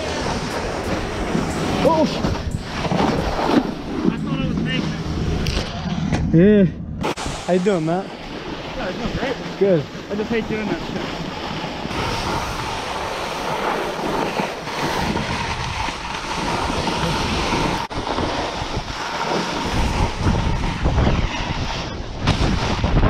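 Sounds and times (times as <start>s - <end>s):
snowboard scraping snow: 0.0s - 5.4s, 7.0s - 23.0s
wind on microphone: 0.0s - 23.0s.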